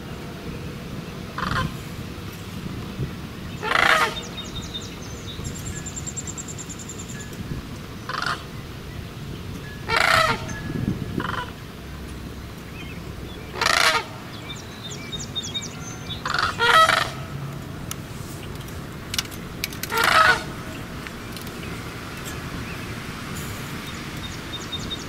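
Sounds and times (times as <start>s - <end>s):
cranes calling: 1.3s - 2.0s, 3.4s - 9.1s, 9.7s - 25.0s.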